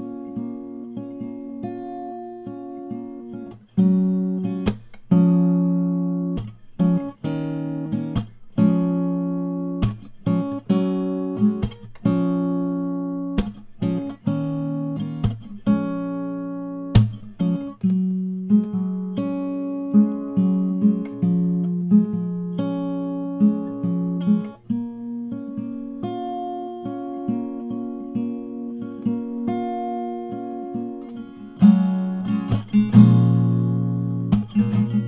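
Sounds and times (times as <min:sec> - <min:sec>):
acoustic guitar strumming chords: 0:00.0 - 0:35.0.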